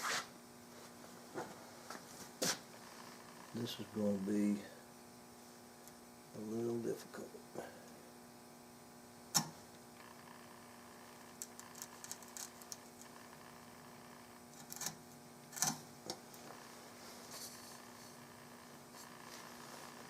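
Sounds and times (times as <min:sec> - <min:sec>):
faint steady hum: 0:00.1 - 0:20.0.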